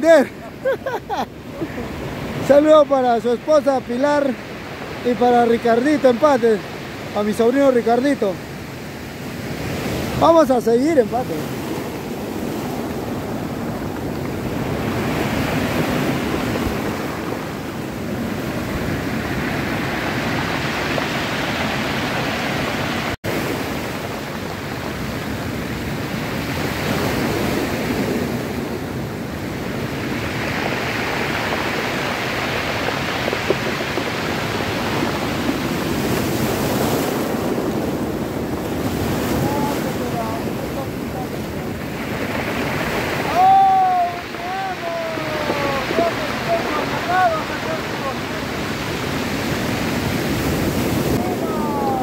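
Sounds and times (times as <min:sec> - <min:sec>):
ocean surf breaking on rocks: 0:00.0 - 0:52.0.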